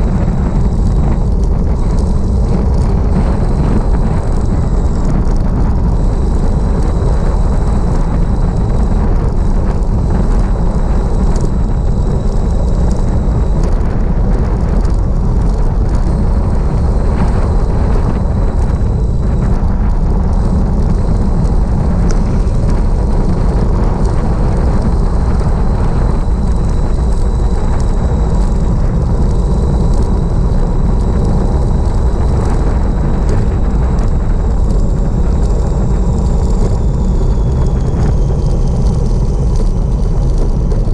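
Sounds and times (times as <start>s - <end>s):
small ticks from vibration: 0.0s - 40.9s
tyre and road noise: 0.0s - 40.9s
wind buffeting microphone: 0.0s - 40.9s.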